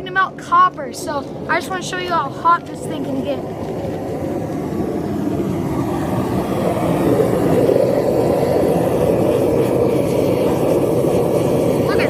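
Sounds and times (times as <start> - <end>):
propane torch roaring: 0.0 - 12.0.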